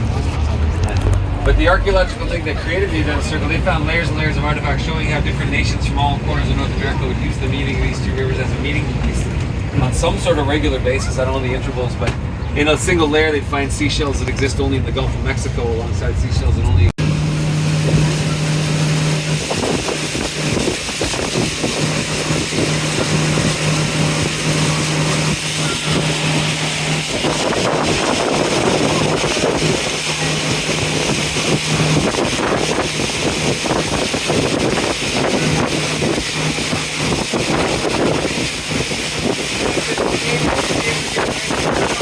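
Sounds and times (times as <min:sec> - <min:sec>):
boat engine humming: 0:00.0 - 0:42.0
wind buffeting microphone: 0:00.0 - 0:42.0.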